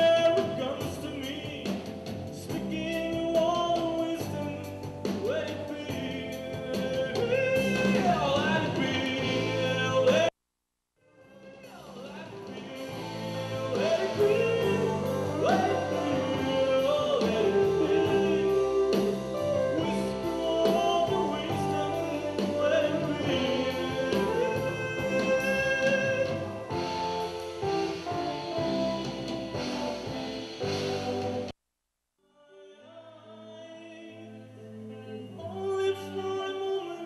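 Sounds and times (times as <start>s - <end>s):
lead vocal singing: 0.0s - 10.3s, 11.1s - 31.5s, 32.4s - 37.0s
drums: 0.0s - 10.4s, 11.2s - 31.6s.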